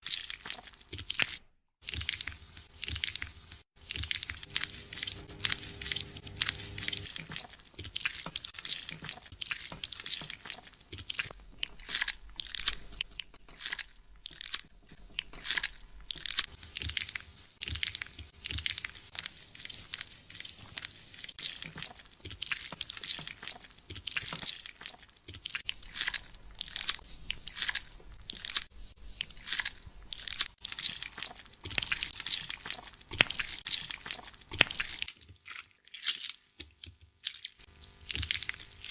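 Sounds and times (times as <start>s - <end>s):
fingers scrubbing lathered hair: 0.1s - 12.7s, 15.4s - 38.9s.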